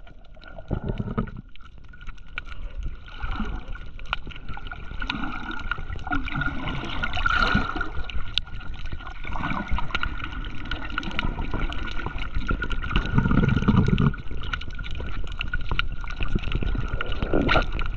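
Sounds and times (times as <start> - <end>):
faint clicks and crackles: 0.0 - 17.9
water sloshing and gurgling: 0.0 - 17.9.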